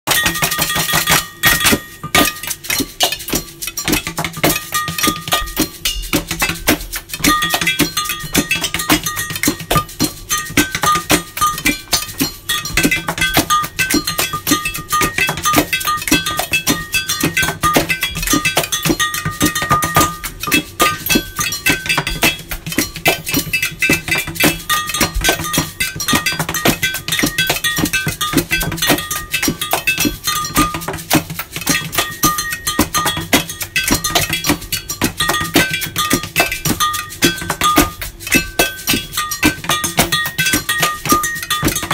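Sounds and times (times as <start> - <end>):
taps on glass jugs and bowls: 0.1 - 41.9.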